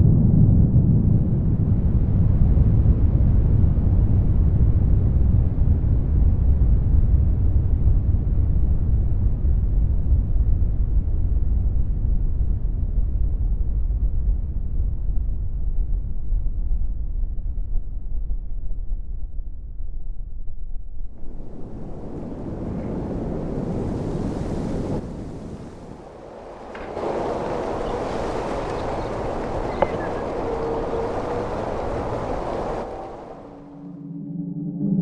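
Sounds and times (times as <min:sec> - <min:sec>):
deep rumble: 0:00.0 - 0:35.0.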